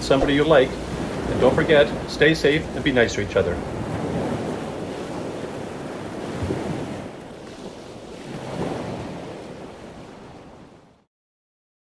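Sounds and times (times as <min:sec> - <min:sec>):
rushing wind: 0:00.0 - 0:11.0
wind gust on microphone: 0:00.0 - 0:11.0
sea noise: 0:00.0 - 0:11.1.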